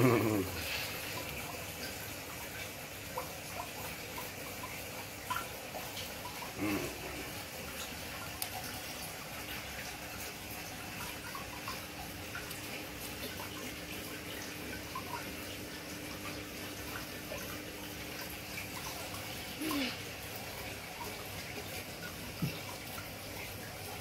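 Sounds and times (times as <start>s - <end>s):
aquarium water splashing: 0.0s - 24.0s.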